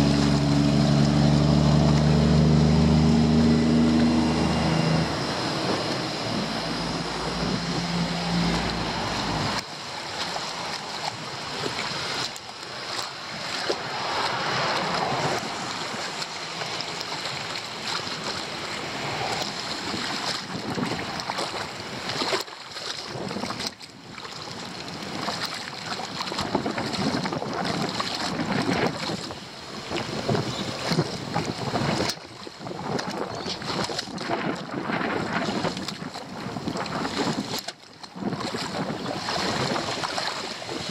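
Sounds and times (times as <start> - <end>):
floodwater rushing into drain: 0.0 - 40.9
wind buffeting microphone: 0.0 - 40.9.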